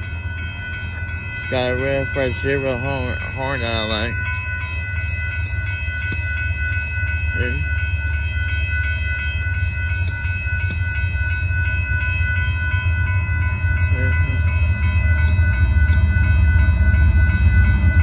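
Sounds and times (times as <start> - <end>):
crossing bell ringing: 0.0 - 18.0
freight train rumble: 0.0 - 18.0.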